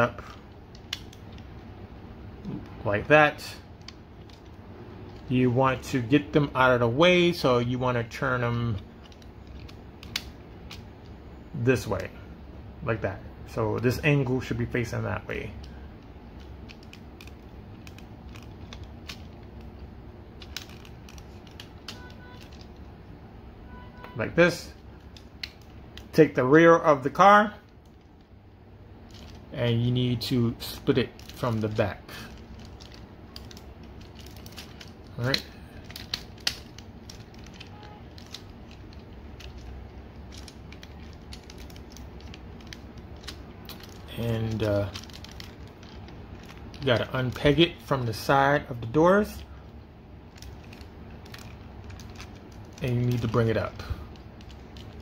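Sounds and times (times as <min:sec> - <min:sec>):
plastic toy joints clicking: 0:00.0 - 0:01.7, 0:03.4 - 0:11.2, 0:13.8 - 0:22.9, 0:24.8 - 0:26.2, 0:29.0 - 0:55.0
low room hum: 0:00.0 - 0:55.0.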